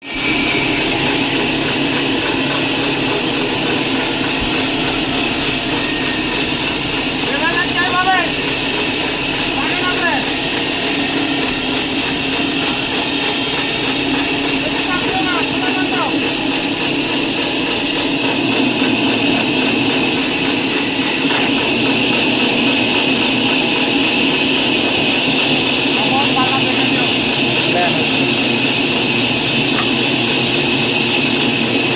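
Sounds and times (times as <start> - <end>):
power tool whirring: 0.0 - 31.9.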